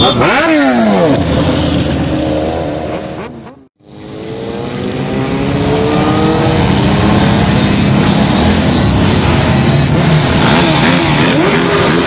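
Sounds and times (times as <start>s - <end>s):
motorcycle engines riding past: 0.0s - 12.0s.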